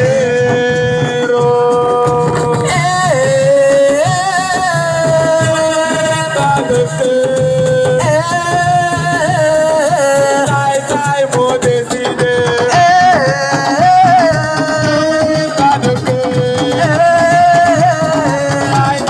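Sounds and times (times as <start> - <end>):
hand drums beating: 0.0 - 19.0.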